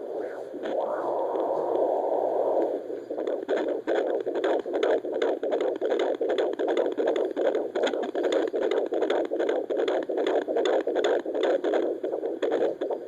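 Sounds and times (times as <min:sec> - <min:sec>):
fetal heartbeat pulses: 0:00.0 - 0:13.0.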